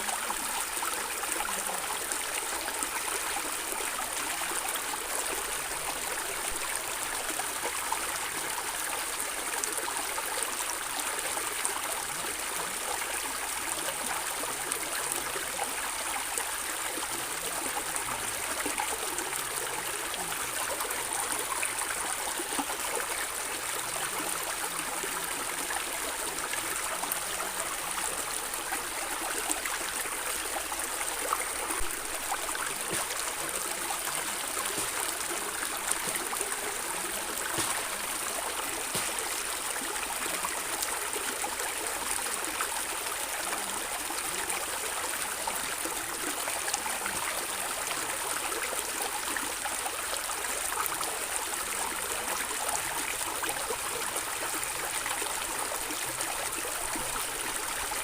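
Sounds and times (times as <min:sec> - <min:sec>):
stream gurgling over stones: 0:00.0 - 0:58.0.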